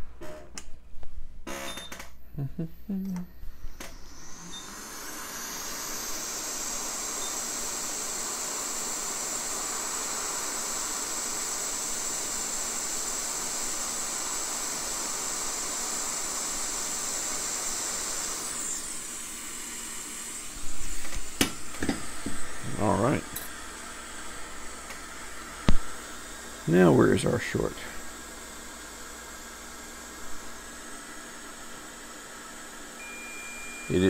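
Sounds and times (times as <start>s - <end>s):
hot air blower hissing: 3.6s - 34.0s.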